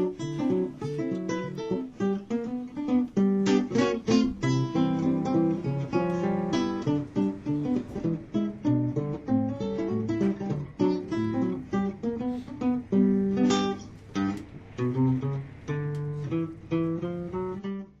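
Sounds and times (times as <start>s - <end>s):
acoustic guitar plucking: 0.0s - 18.0s.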